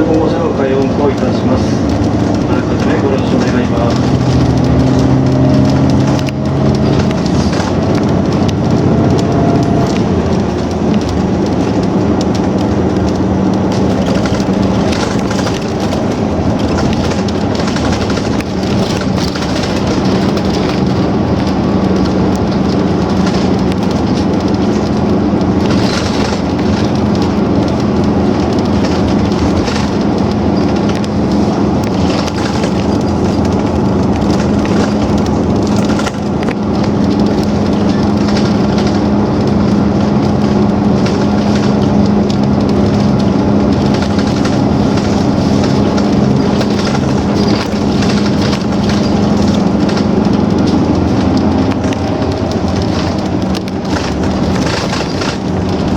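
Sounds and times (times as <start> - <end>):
bus motor and tyre drone: 0.0 - 55.9.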